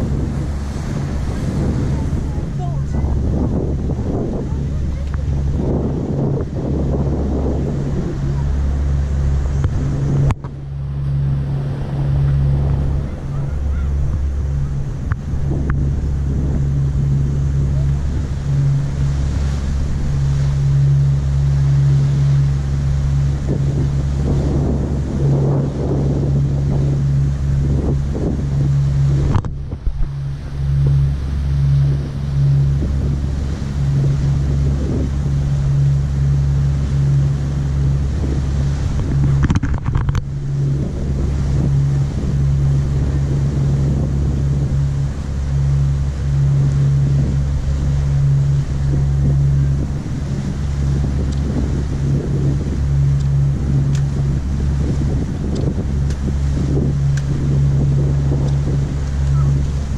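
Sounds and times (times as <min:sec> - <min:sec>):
ferry engines droning: 0:00.0 - 0:59.9
water rushing in the wake: 0:00.0 - 0:59.9
wind buffeting the microphone: 0:00.0 - 0:59.9.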